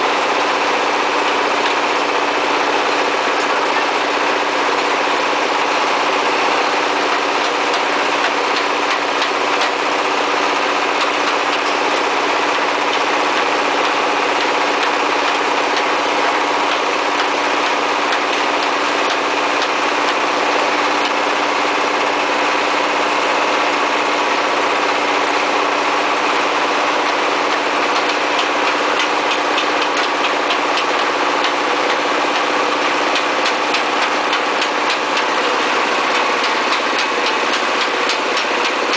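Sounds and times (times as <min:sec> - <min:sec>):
machine engine humming: 0:00.0 - 0:38.9.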